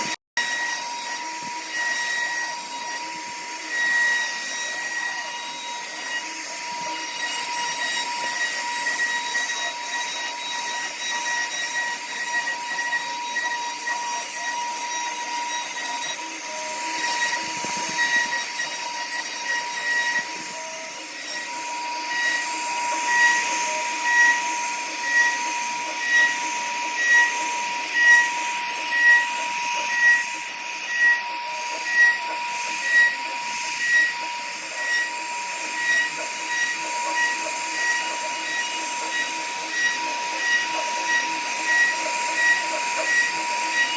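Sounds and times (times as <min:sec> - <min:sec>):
router spindle whining cutting wood: 0:00.0 - 0:43.9.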